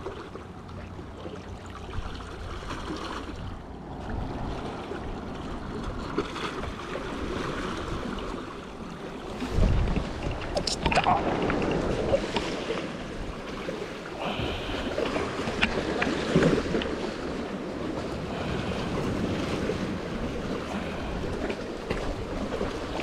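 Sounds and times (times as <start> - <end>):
water lapping against concrete: 0.0 - 23.0
wind buffeting microphone: 1.9 - 23.0.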